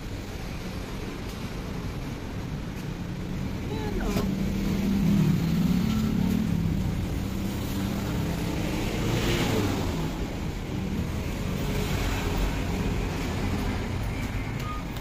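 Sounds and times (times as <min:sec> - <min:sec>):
rumble of passing cars: 0:00.0 - 0:15.0.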